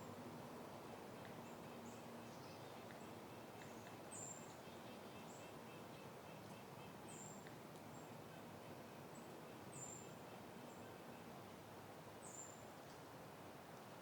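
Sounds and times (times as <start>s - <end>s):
soft wind in foliage: 0.0s - 14.0s.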